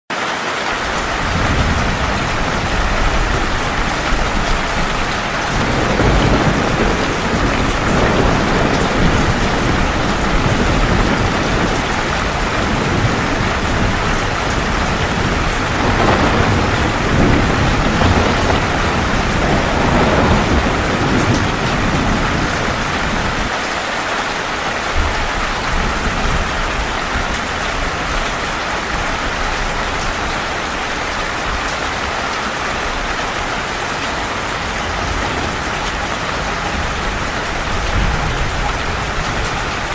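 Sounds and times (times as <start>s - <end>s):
heavy rain: 0.1s - 39.9s
low rolling thunder: 0.8s - 23.5s, 24.6s - 39.9s.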